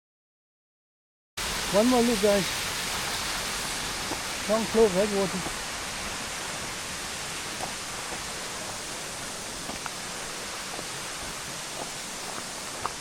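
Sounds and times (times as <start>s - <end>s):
water rushing over waterfall: 1.4s - 13.0s.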